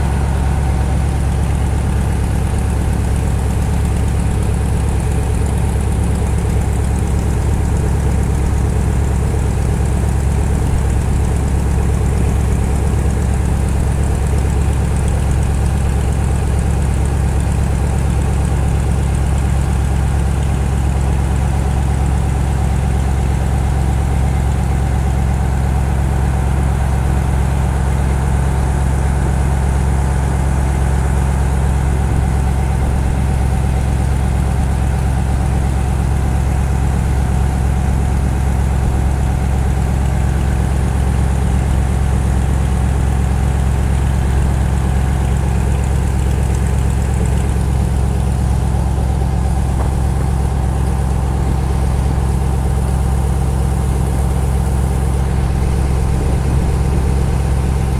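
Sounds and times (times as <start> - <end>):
motor boat engine drone: 0.0 - 57.9.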